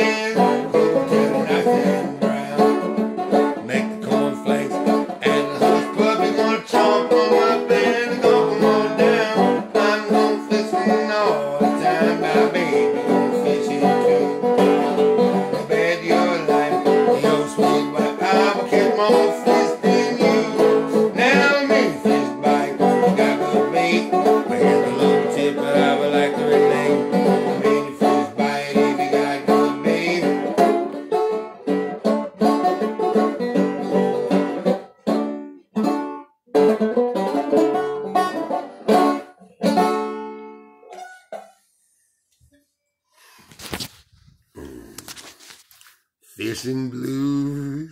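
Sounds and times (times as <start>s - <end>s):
banjo picking: 0.0s - 41.7s.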